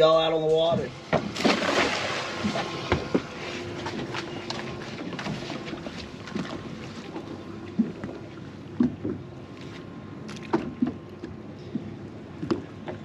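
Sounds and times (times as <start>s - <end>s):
knocks and slaps on boat: 0.6s - 13.0s
water lapping against boat hull: 0.6s - 13.0s.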